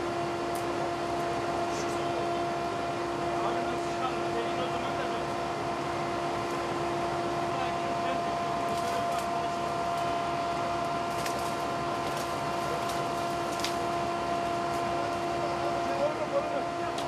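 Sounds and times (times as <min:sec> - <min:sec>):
mechanical hum with whine: 0:00.0 - 0:17.0.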